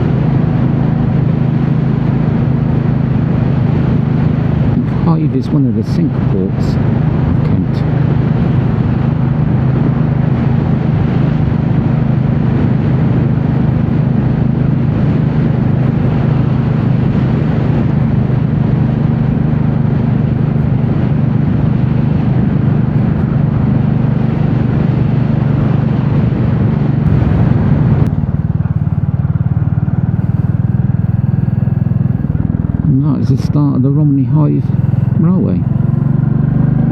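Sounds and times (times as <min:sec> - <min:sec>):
motorcycle engine running: 0:00.0 - 0:36.9
wind noise: 0:00.0 - 0:36.9.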